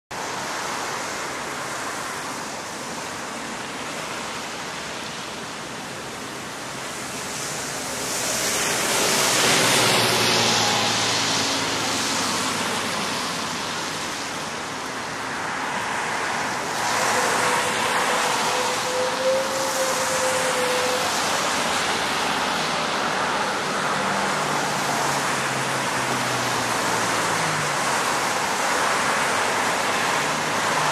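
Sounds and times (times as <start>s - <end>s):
tyres hissing on wet road: 0.2s - 30.9s.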